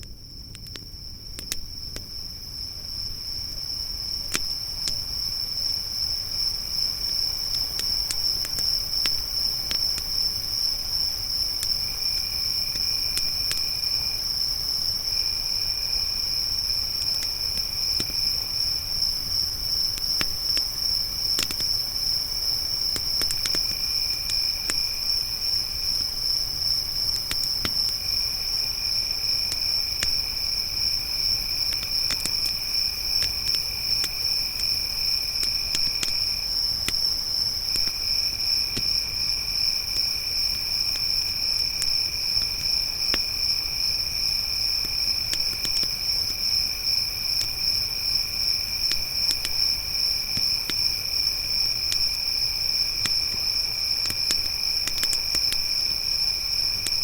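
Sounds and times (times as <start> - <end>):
campfire crackling: 0.0 - 57.0
crickets chirping: 0.0 - 57.0
lower insect trill: 0.0 - 57.0.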